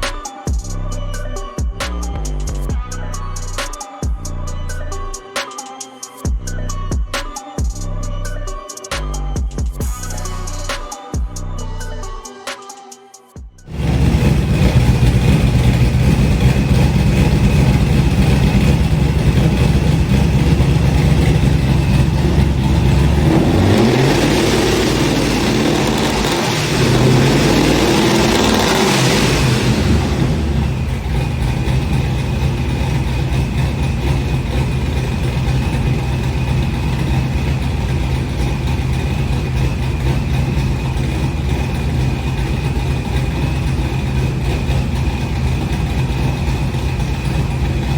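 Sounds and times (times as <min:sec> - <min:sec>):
car engine idling and revving: 0:00.0 - 0:05.2, 0:13.6 - 0:47.9.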